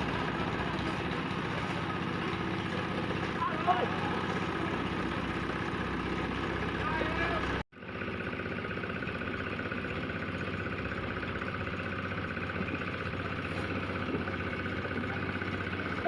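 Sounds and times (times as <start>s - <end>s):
motor engine humming steadily: 0.0s - 16.0s.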